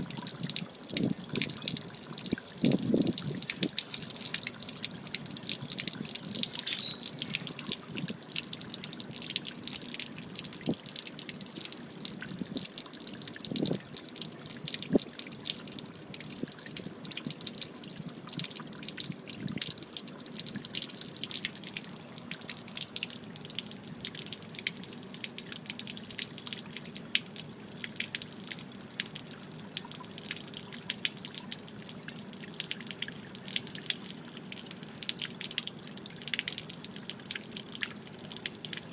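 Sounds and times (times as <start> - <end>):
water splashing onto pavement: 0.0 - 38.9.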